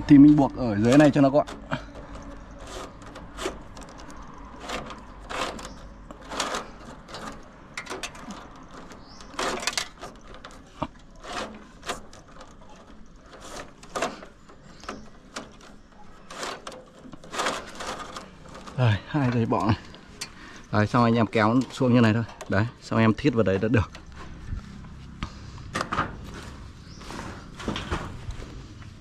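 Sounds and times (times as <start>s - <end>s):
cables rustling and scraping: 0.0s - 29.0s.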